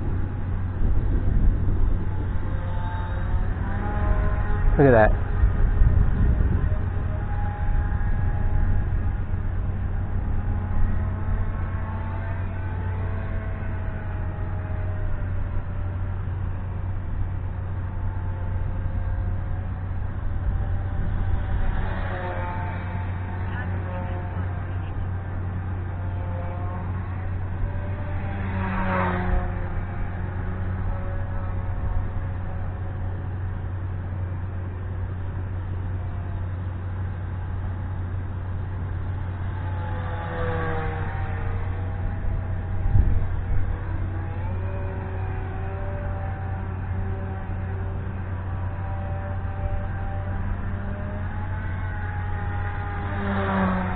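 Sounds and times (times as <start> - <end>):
model airplane motor whine: 0.0 - 53.9
wind rumble on microphone: 0.0 - 53.9.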